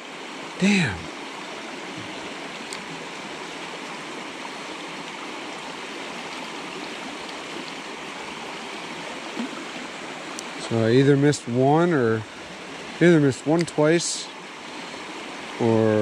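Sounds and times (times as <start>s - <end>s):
creek water rushing over rocks: 0.0s - 16.0s.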